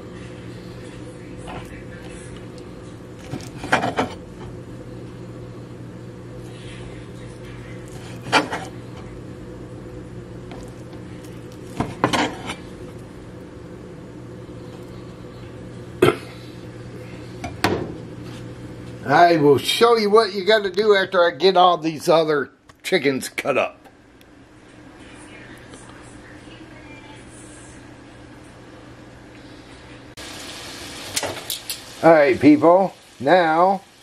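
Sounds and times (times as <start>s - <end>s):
steady low hum: 0.0s - 31.2s.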